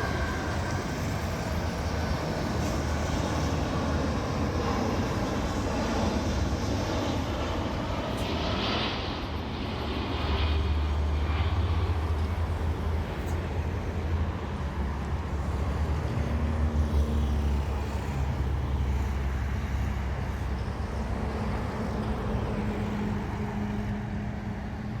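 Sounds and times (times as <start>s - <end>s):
jet airliner engines rumbling: 0.0s - 25.0s.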